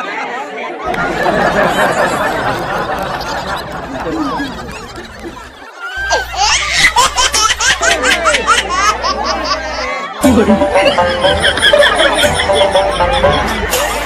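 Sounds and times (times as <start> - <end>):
crowd chattering and calling out: 0.0 - 14.0
loud laughter with shrieks: 1.1 - 10.2, 10.8 - 13.8.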